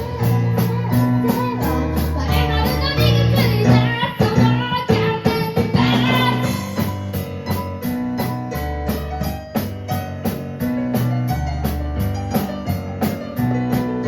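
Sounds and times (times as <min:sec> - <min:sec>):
electric keyboard chords: 0:00.0 - 0:14.0
held bass notes: 0:00.0 - 0:14.0.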